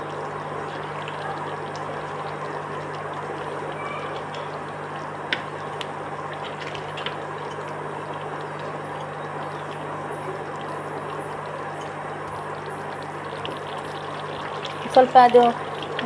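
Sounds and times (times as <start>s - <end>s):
steady hiss with low hum: 0.0s - 16.0s.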